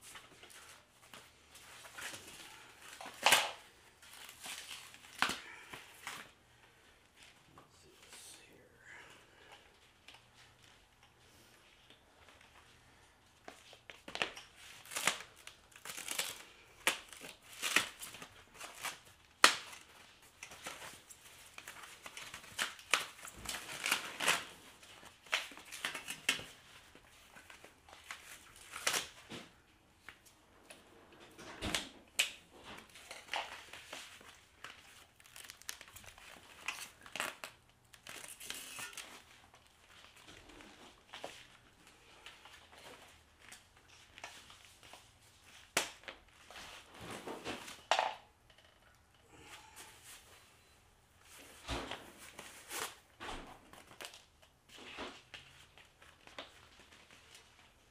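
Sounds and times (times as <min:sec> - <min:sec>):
packing material crinkling and tearing: 0:00.0 - 0:07.3, 0:13.4 - 0:29.6, 0:31.7 - 0:48.0, 0:51.2 - 0:57.9.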